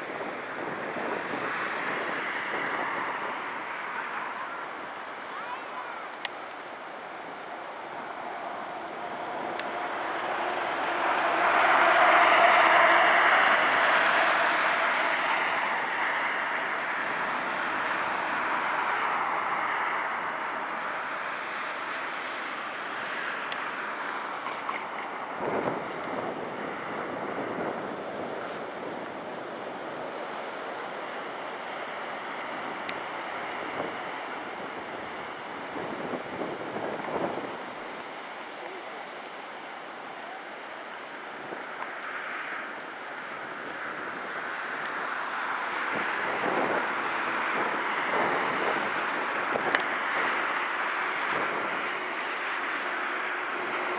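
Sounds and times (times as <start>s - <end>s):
distant jet engine rushing: 0.0s - 53.9s
wind buffeting microphone: 0.0s - 53.9s.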